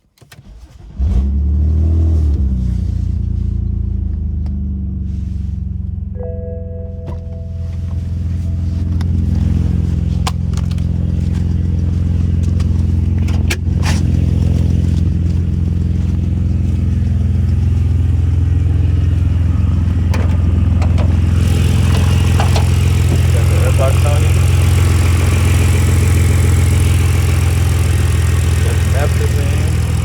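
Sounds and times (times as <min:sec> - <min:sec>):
car engine idling: 0:02.6 - 0:30.0.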